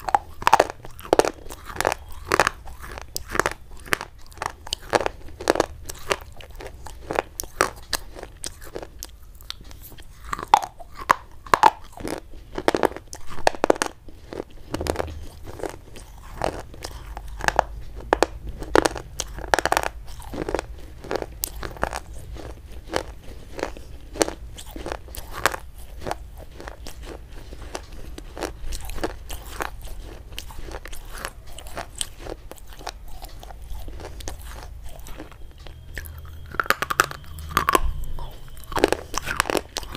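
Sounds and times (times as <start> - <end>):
crunching chalk-like stick: 0.0 - 39.9.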